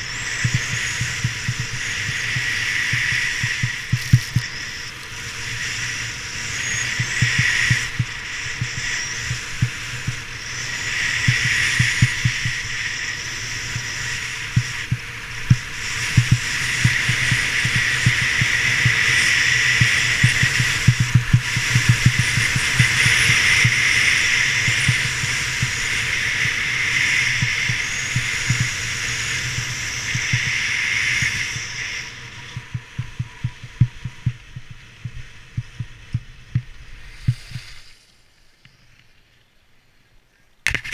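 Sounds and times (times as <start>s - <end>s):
skis hissing over snow: 0.0s - 33.8s, 36.8s - 39.4s
wind buffeting microphone: 0.0s - 37.8s.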